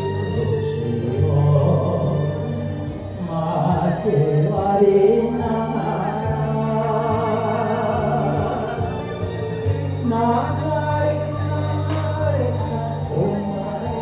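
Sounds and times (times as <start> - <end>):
karaoke backing track: 0.0 - 14.0
man singing into a microphone: 0.0 - 14.0.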